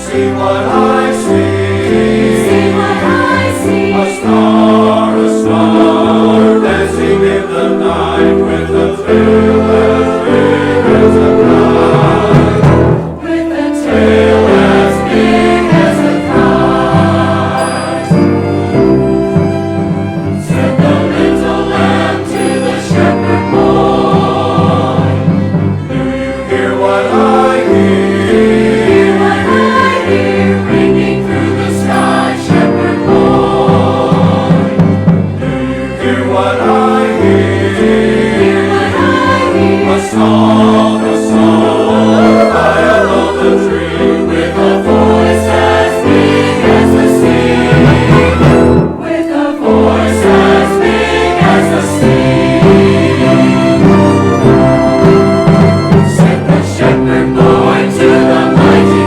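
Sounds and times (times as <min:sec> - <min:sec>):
choir singing: 0:00.0 - 0:59.0
orchestra playing: 0:00.0 - 0:59.0.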